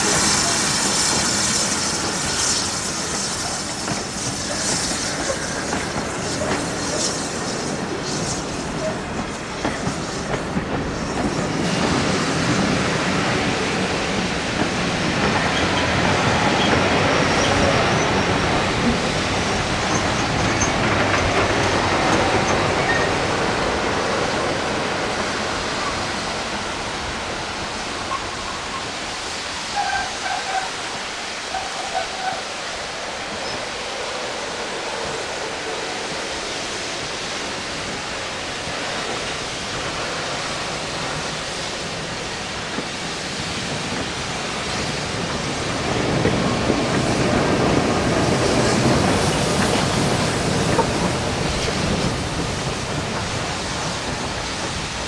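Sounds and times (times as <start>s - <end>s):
wheels rushing on rail: 0.0s - 55.0s.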